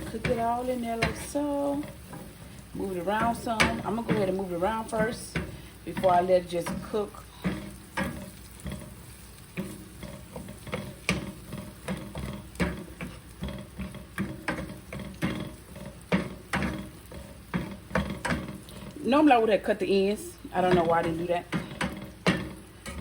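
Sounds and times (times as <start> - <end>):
utensil clicking and scraping pan: 0.0 - 19.1, 20.4 - 23.0
food sizzling in a pan: 0.0 - 23.0.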